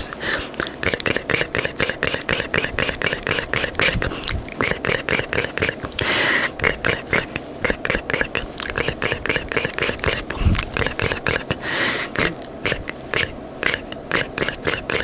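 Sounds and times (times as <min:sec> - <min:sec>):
breathy hiss: 0:00.0 - 0:15.0
mouth and tongue clicks: 0:00.0 - 0:15.0.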